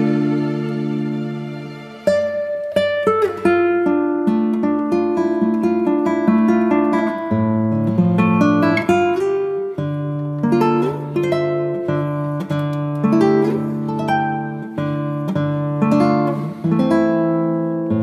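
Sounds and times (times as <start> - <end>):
acoustic guitar: 0.0 - 18.0.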